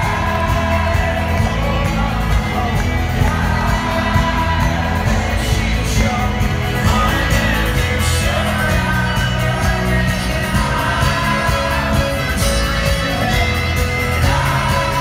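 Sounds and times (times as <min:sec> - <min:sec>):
live folk-rock band playing: 0:00.0 - 0:15.0.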